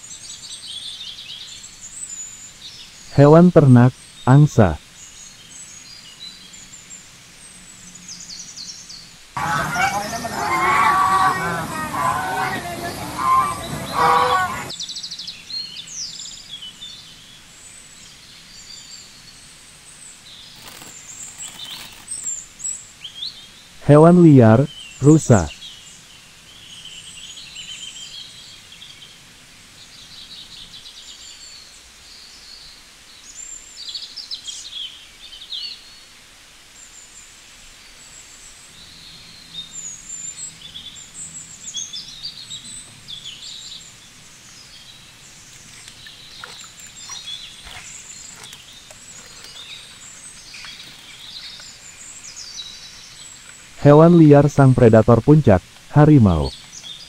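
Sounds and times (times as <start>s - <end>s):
birds chirping: 0.0s - 29.2s, 37.9s - 57.0s.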